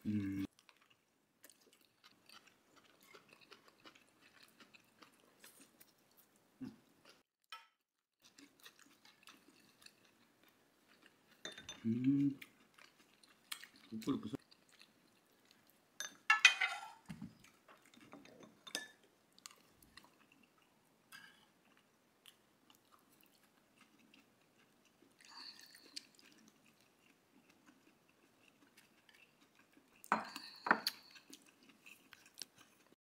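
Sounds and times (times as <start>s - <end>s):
person chewing and eating: 0.0s - 7.3s, 8.2s - 16.3s, 17.1s - 33.0s.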